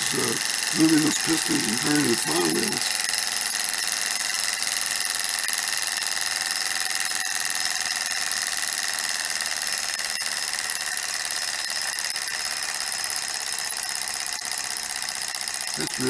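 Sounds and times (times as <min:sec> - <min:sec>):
small engine high-pitched whir: 0:00.0 - 0:16.0.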